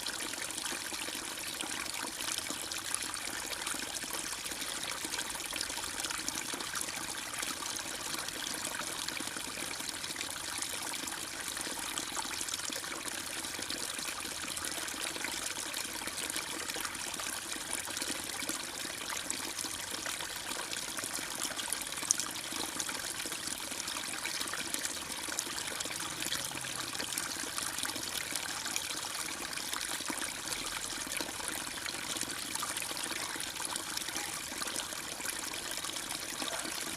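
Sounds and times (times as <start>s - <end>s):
trickling water: 0.0s - 36.9s.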